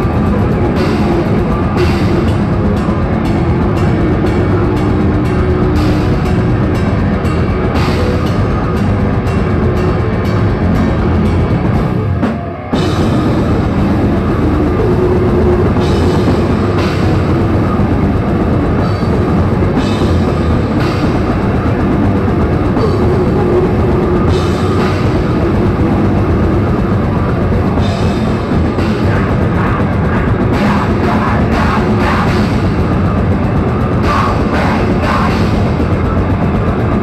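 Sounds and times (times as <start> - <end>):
death metal band playing live: 0.0 - 37.0.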